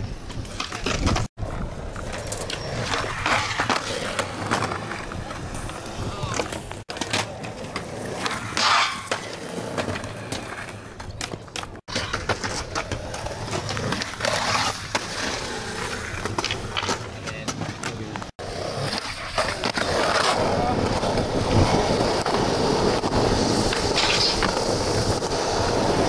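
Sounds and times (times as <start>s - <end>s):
skateboard wheels rolling: 0.0s - 26.0s
skateboard clacks: 0.1s - 26.0s
skateboard grinding concrete ledge: 0.4s - 17.8s, 18.4s - 26.0s.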